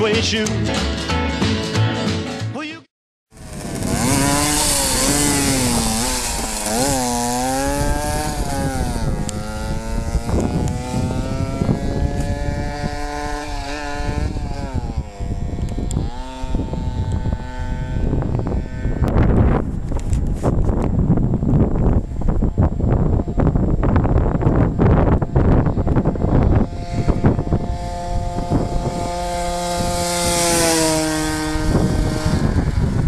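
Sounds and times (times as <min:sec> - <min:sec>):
moped engine revving: 0:03.3 - 0:20.3, 0:21.4 - 0:33.0
wind rushing: 0:03.4 - 0:33.0.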